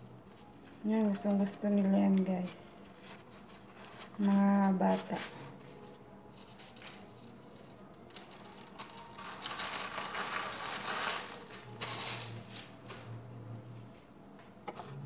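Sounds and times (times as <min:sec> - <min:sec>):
low steady hum: 0:00.0 - 0:15.0
paper rustling and crinkling: 0:00.2 - 0:13.1.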